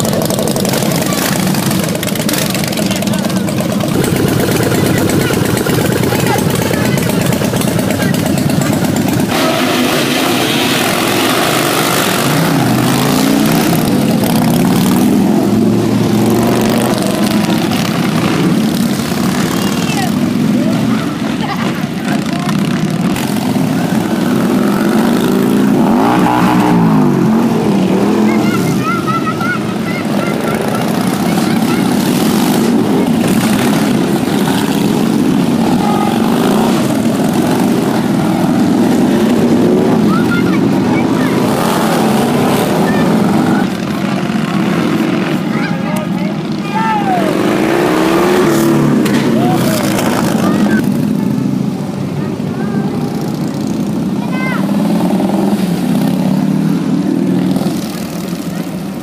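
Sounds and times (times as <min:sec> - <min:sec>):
motorcycles riding past: 0:00.0 - 0:59.0.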